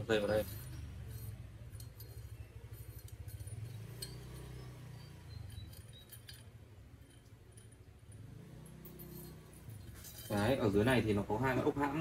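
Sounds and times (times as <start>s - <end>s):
small metal clinks: 0.0s - 11.7s.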